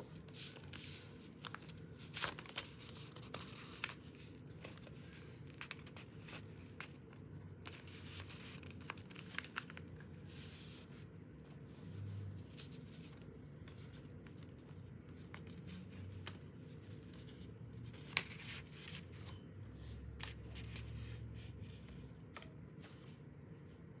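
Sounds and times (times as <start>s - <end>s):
paper rustling and crinkling: 0.0s - 23.2s.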